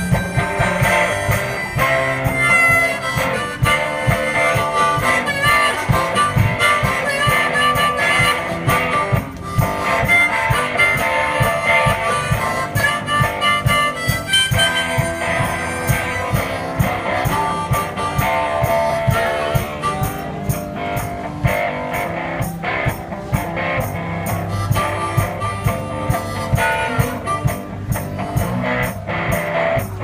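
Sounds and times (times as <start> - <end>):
blues harmonica: 0.0 - 30.0
guitar: 0.0 - 30.0
steady low beat: 0.0 - 30.0.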